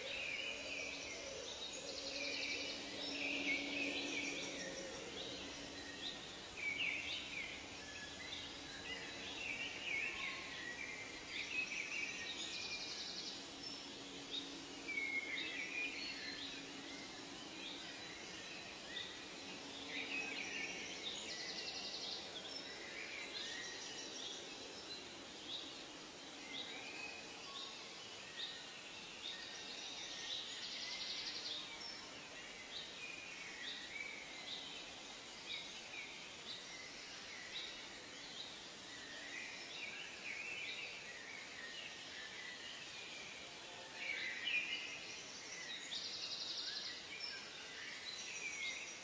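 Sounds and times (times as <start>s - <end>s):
background hiss: 0.0s - 49.0s.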